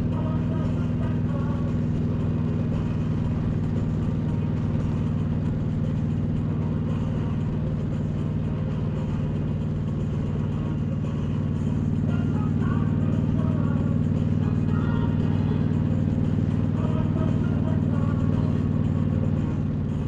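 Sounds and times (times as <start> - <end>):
motorcycle engine cruising: 0.0 - 20.0.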